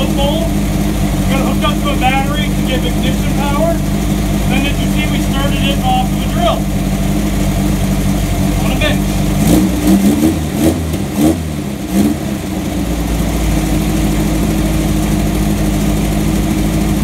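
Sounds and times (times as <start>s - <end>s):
engine revving and idling: 0.0s - 17.0s.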